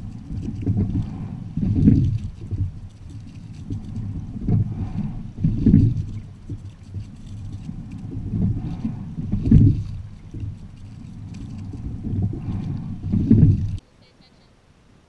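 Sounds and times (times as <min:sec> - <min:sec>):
oarlock clicks: 0:00.0 - 0:13.8
wind on microphone: 0:00.0 - 0:13.8
water rushing along hull: 0:00.0 - 0:13.9.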